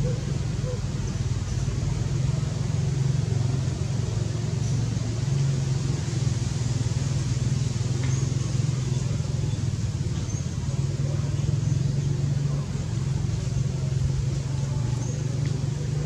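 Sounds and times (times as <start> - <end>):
even rumbling noise: 0.0 - 16.0
low engine-like hum: 0.0 - 16.0.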